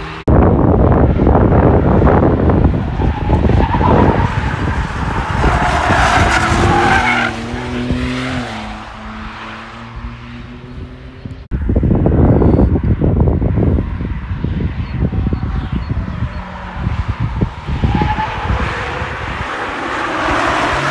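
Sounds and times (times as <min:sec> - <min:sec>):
car engine drone: 0:00.0 - 0:20.9.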